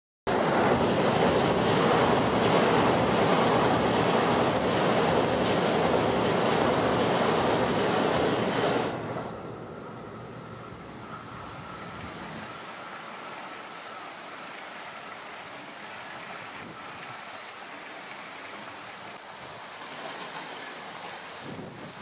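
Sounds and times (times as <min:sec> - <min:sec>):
rushing outdoor noise: 0:00.3 - 0:22.0.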